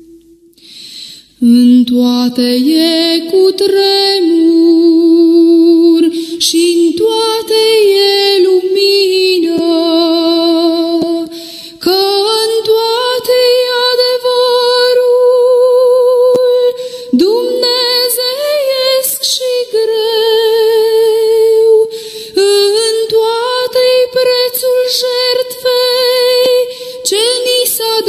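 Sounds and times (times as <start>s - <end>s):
woman singing hymn: 1.4s - 28.0s.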